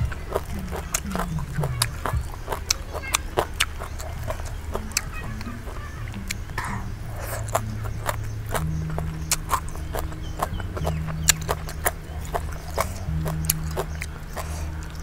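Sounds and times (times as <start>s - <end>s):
background music notes: 0.0s - 15.0s
close chewing and mouth smacks: 0.0s - 15.0s.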